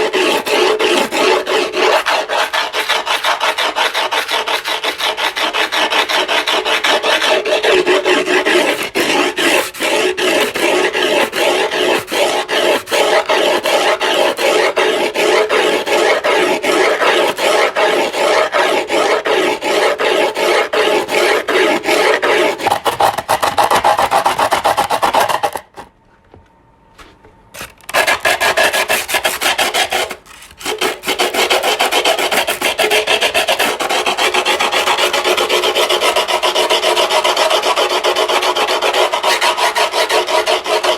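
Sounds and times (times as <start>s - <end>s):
file rasping over griptape: 0.0s - 25.8s, 27.6s - 40.9s.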